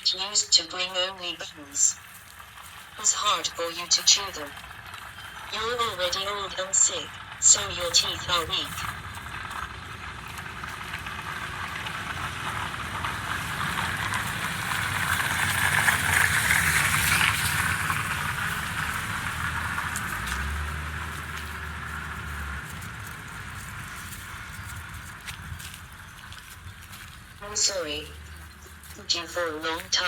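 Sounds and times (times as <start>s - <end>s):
low engine hum: 0.0s - 30.0s
vehicle passing: 4.4s - 30.0s.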